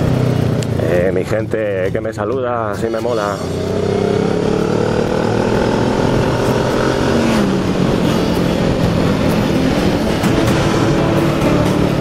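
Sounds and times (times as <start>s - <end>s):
motorcycle engine running: 0.0s - 2.0s, 2.7s - 12.0s.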